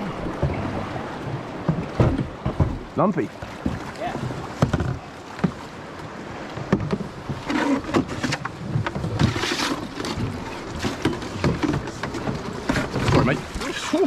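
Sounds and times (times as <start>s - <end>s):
canoe paddle strokes: 0.0s - 14.0s
river water splashing: 0.0s - 14.0s
knocks on canoe: 0.2s - 5.7s, 6.5s - 13.6s.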